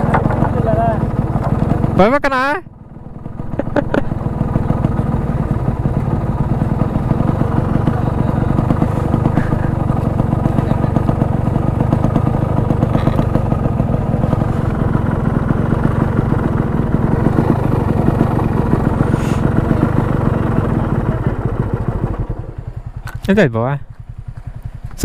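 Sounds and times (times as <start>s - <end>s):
two-stroke motorcycle engine running: 0.0s - 25.0s.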